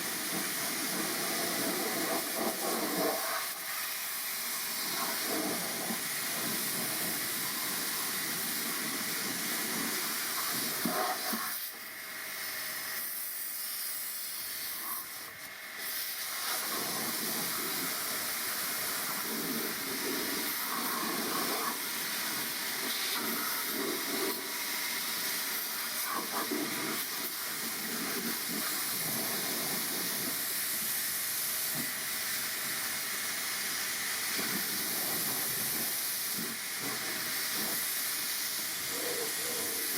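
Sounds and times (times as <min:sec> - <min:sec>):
hiss of pressurised cleaning jet: 0:00.0 - 0:39.9.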